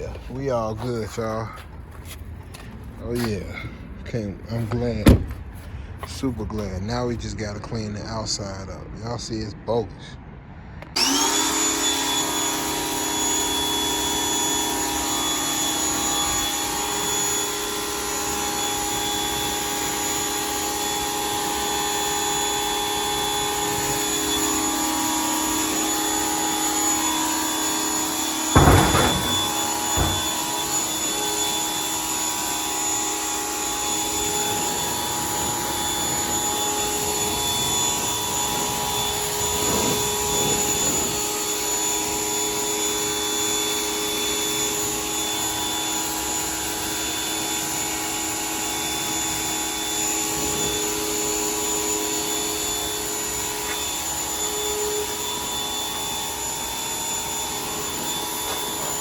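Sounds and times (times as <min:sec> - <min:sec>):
vacuum cleaner motor whining: 0:10.9 - 0:59.0.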